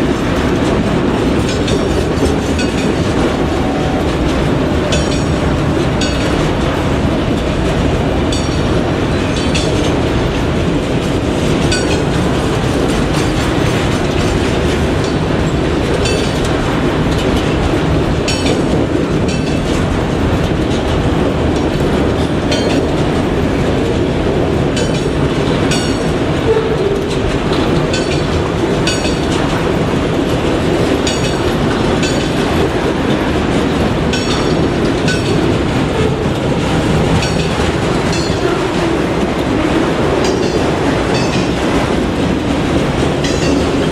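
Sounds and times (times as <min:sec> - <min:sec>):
railroad cars rumbling on track: 0:00.0 - 0:43.9
wheels clicking over rail joints: 0:00.0 - 0:43.9.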